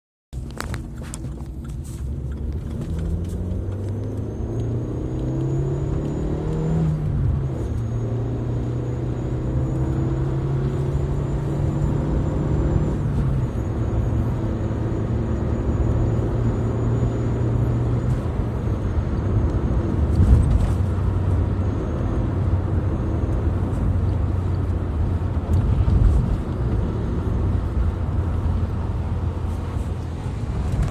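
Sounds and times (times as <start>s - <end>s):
car engine revving: 1.8s - 30.9s.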